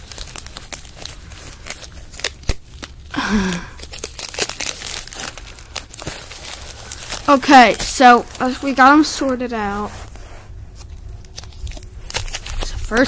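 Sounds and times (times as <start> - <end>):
foil wrappers crinkling: 0.0 - 13.0.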